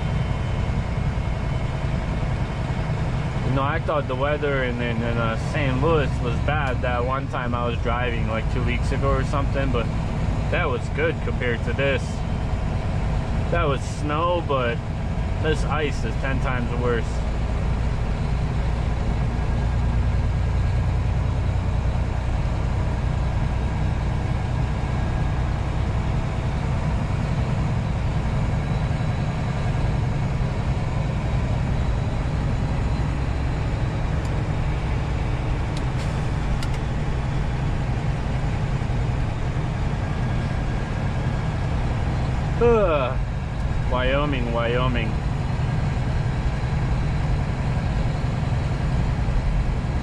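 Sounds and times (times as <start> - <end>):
diesel engine droning: 0.0 - 50.0
road noise: 0.0 - 50.0.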